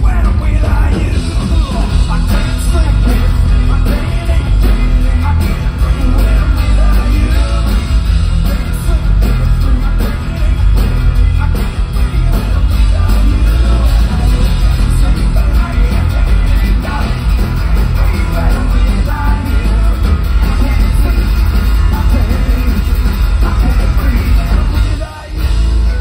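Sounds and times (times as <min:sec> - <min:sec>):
live rock band playing: 0:00.0 - 0:26.0
person singing: 0:00.0 - 0:26.0.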